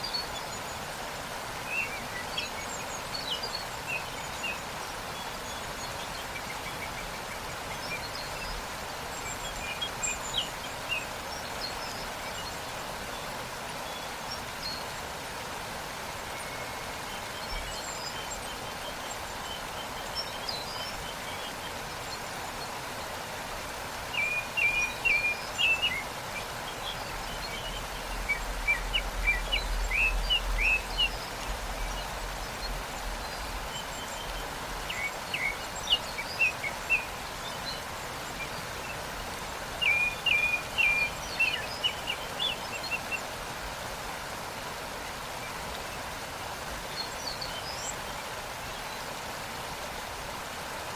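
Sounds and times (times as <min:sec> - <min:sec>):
small birds chirping: 0:00.0 - 0:50.9
waterfall rushing: 0:00.0 - 0:50.9.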